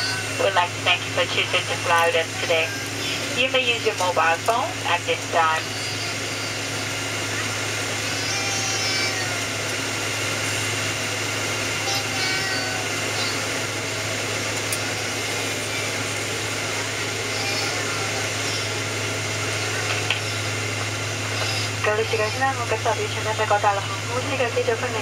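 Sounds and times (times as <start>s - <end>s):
airliner cabin hum: 0.0s - 25.0s
faint passenger voices: 0.0s - 25.0s.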